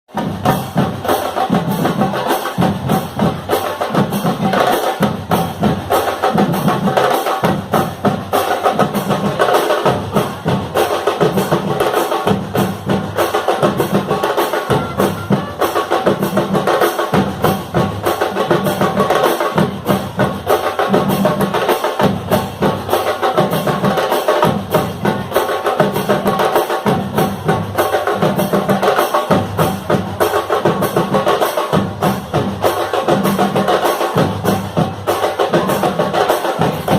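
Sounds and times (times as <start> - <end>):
bass drum and snare beat: 0.1 - 36.9
marching band playing: 0.1 - 36.9.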